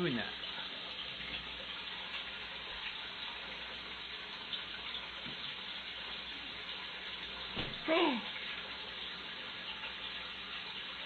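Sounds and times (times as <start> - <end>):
running water: 0.0 - 11.0.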